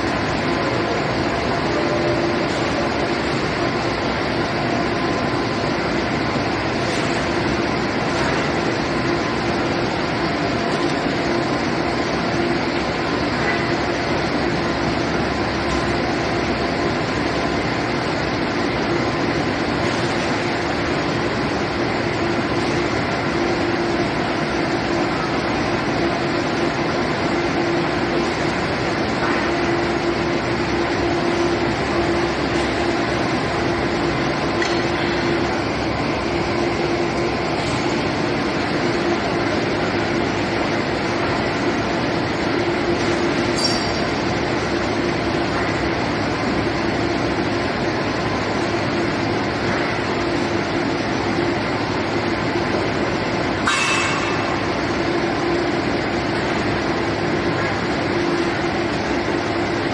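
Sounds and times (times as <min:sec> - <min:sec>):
industrial machinery roar: 0:00.0 - 0:59.9.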